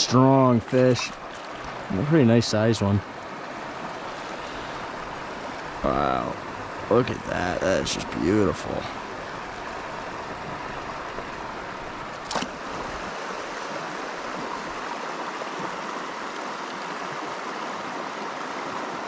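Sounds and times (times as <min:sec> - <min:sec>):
river rushing over stones: 0:00.0 - 0:19.0.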